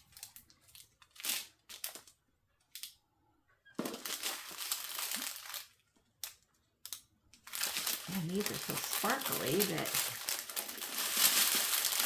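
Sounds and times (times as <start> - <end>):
plastic packets crinkling: 0.0 - 2.2, 3.8 - 12.0.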